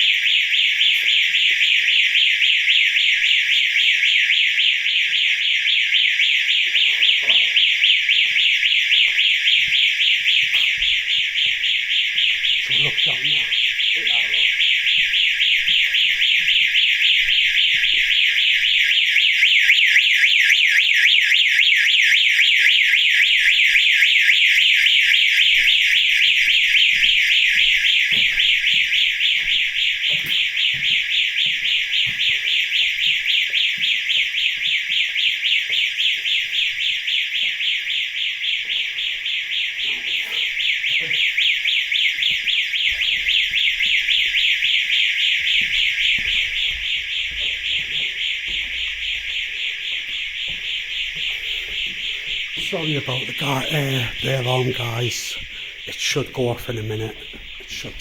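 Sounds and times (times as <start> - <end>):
intruder alarm pulsing tone: 0.0 - 58.0.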